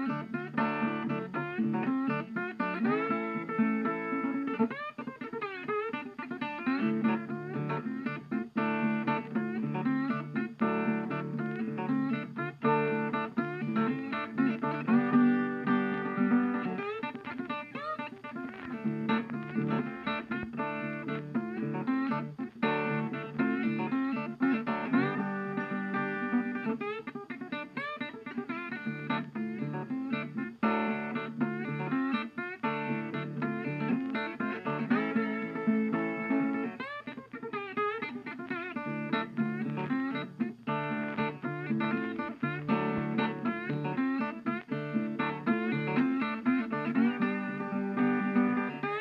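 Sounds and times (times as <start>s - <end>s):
plucked guitar music: 0.0s - 49.0s.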